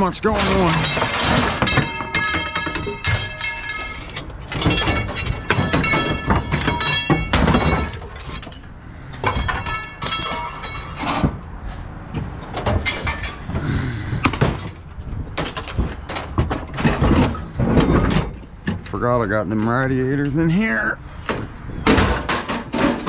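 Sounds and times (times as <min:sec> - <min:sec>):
scrap metal clanking: 0:00.2 - 0:23.0.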